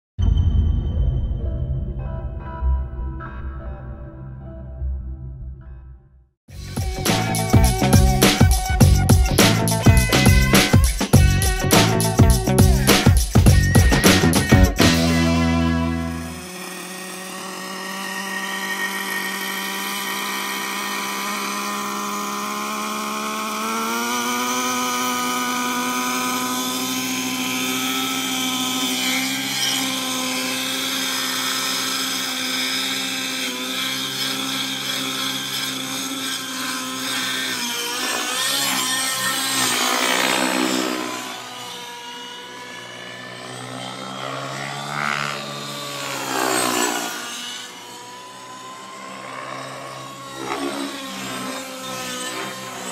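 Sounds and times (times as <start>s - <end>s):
model helicopter engine running: 6.6s - 52.9s.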